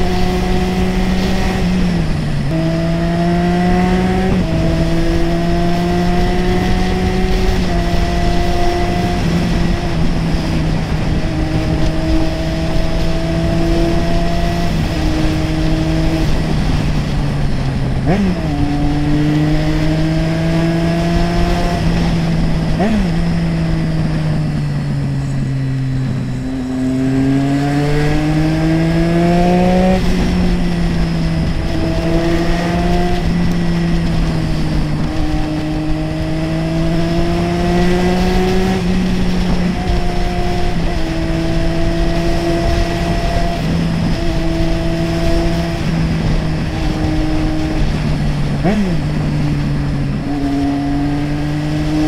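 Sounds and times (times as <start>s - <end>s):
motorcycle engine running: 0.0s - 52.0s
road and wind noise: 0.0s - 52.0s.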